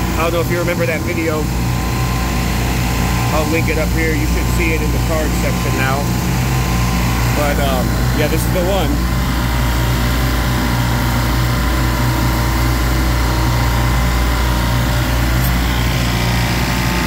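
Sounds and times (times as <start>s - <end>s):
refrigeration compressors humming: 0.0s - 17.0s.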